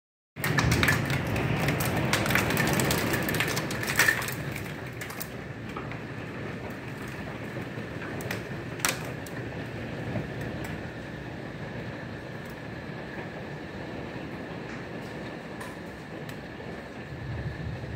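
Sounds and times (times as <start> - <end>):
hail ticking on deck: 0.4 - 17.2
wind and rain rushing: 0.4 - 17.9.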